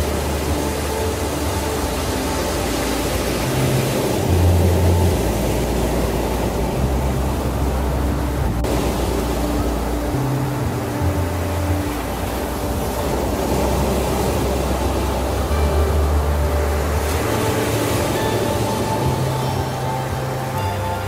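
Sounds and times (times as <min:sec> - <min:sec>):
ocean surf rushing: 0:00.0 - 0:21.0
slow ambient music: 0:00.0 - 0:21.0.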